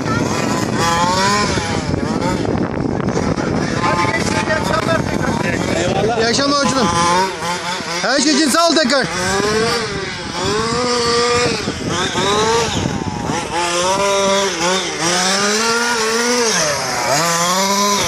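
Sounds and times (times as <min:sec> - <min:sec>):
rc car engine revving: 0:00.0 - 0:18.0.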